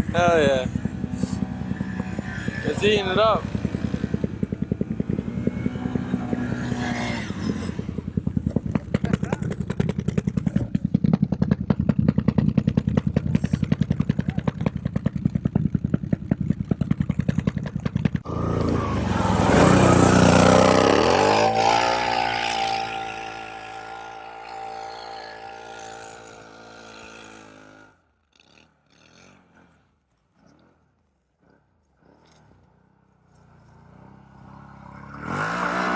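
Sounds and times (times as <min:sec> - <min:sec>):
vehicle engine pulsing and revving: 0:00.0 - 0:35.9.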